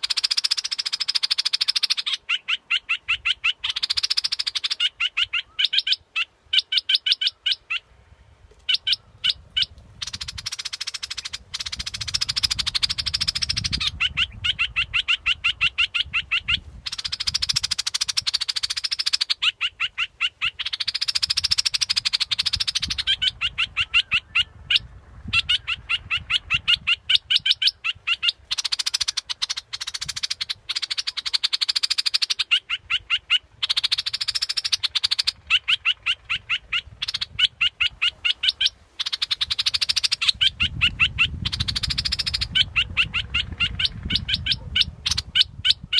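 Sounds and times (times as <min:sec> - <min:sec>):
bird singing and chattering: 0:00.0 - 0:07.8, 0:08.6 - 0:45.9.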